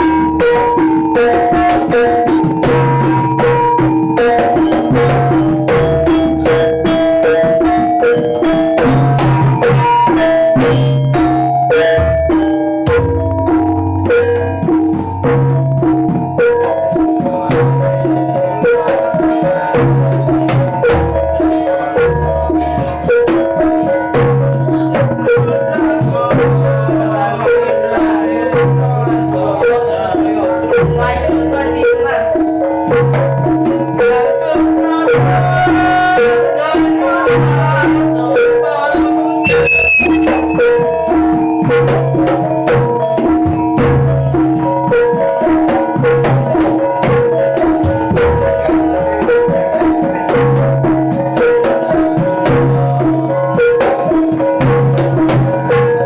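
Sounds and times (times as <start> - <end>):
gamelan music: 0.0 - 56.0
low held tones: 0.0 - 56.0
metallophones playing melody: 0.0 - 56.0.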